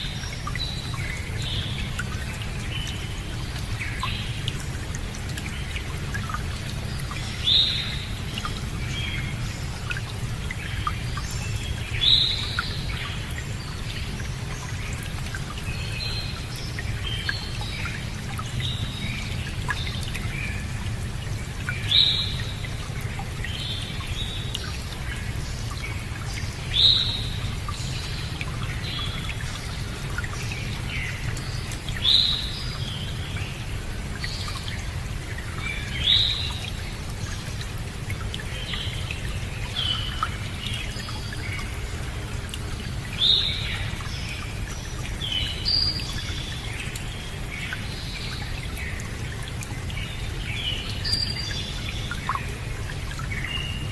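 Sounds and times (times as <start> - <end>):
running water: 0.0 - 53.9
wild birds singing: 0.0 - 53.9.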